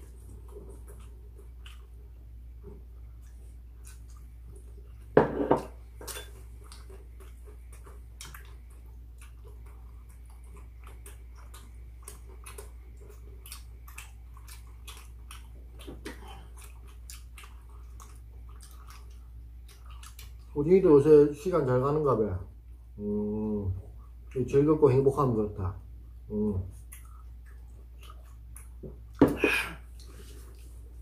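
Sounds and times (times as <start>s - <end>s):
person chewing food: 0.0s - 20.6s, 26.0s - 31.0s
steady low hum: 0.0s - 31.0s.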